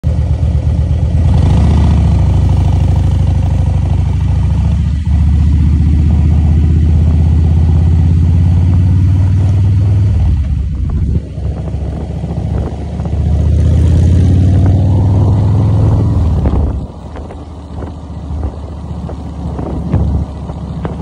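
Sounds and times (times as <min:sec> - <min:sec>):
vehicle engine running steadily: 0:00.0 - 0:21.0.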